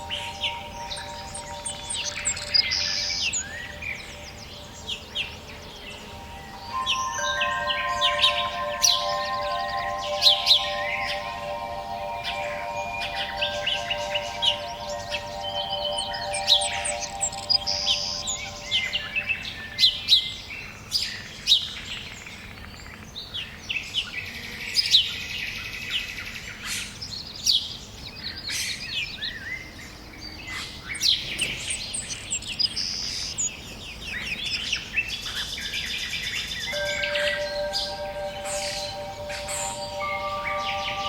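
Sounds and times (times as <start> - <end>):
songbirds chirping and singing: 0.0 - 26.5, 27.2 - 41.0.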